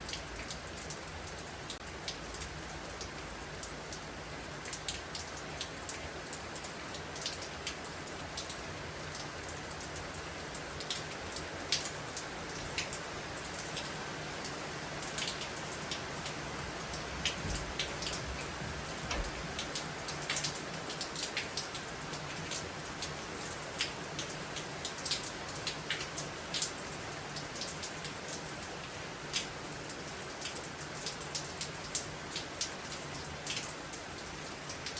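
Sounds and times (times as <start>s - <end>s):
raindrops ticking on surfaces: 0.0s - 34.9s
steady storm rain: 0.0s - 34.9s.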